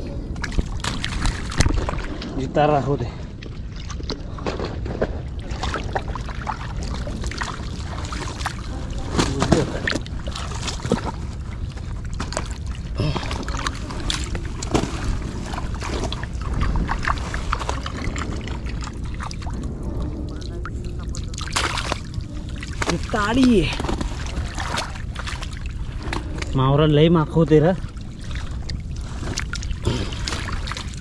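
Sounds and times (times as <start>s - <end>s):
low rumble: 0.0s - 31.0s
muddy water sloshing: 0.0s - 31.0s.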